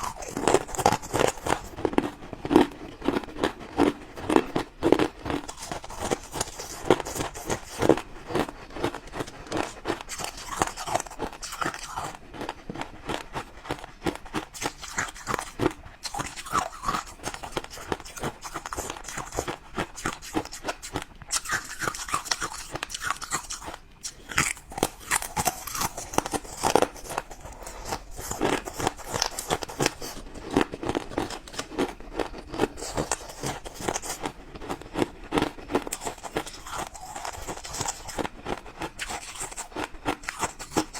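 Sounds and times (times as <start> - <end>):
ice being bitten and chewed: 0.0 - 40.9.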